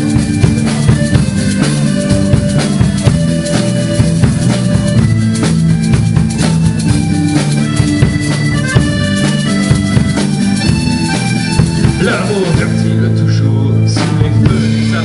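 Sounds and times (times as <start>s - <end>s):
accordion melody: 0.0s - 15.0s
bass guitar: 0.0s - 15.0s
drum kit: 0.0s - 15.0s
guitar: 0.0s - 15.0s.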